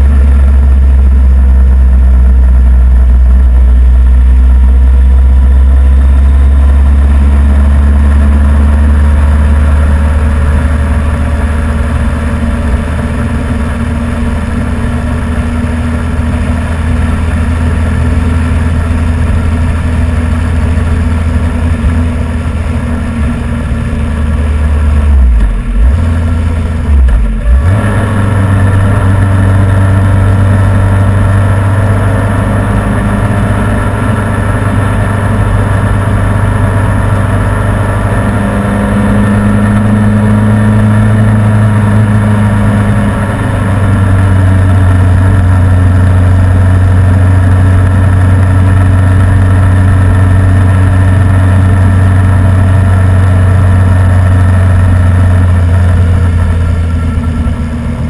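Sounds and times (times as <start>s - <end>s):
motorcycle engine running: 0.0s - 58.0s
wind and road rush: 0.0s - 58.0s.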